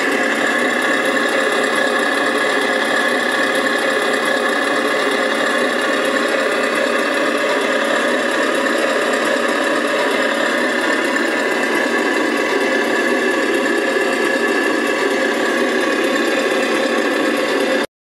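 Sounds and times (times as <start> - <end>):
toy truck mechanical whir: 0.0 - 17.9.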